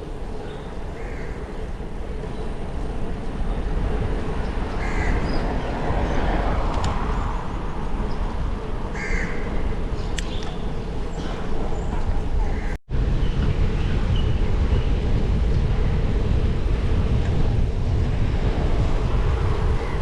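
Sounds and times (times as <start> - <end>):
wind and riding noise: 0.0 - 20.0.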